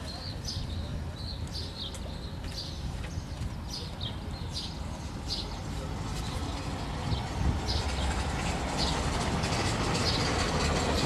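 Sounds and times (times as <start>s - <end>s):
birds chirping: 0.0s - 9.2s.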